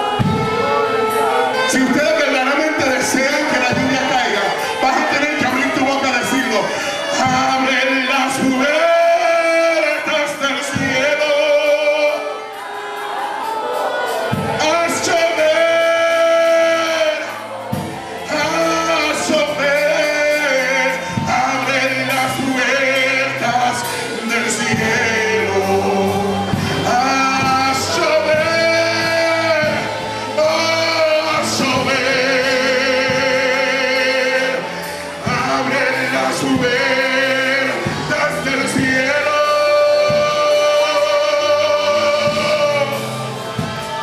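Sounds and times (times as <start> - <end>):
man singing into a microphone: 0.0 - 12.7, 13.3 - 44.0
band accompaniment: 0.0 - 44.0.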